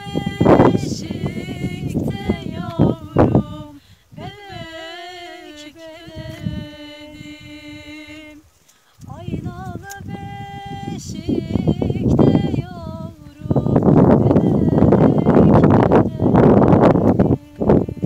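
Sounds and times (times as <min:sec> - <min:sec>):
person singing unaccompanied: 0:00.0 - 0:18.0.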